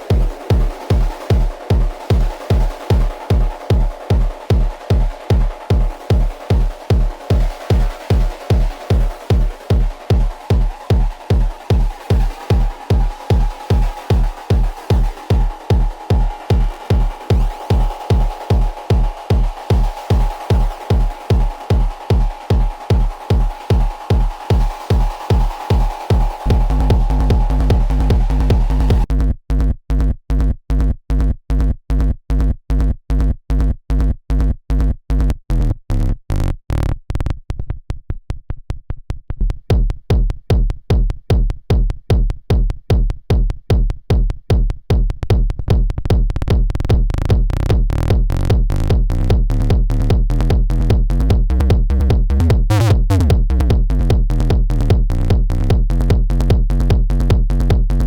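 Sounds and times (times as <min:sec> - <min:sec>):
techno beat with kick drum: 0:00.0 - 0:35.8, 0:39.3 - 0:58.0.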